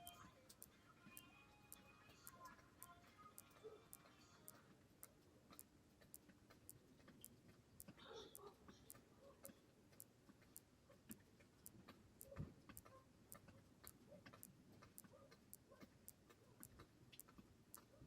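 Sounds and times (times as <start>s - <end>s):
faint steady ticking: 0.0s - 18.0s.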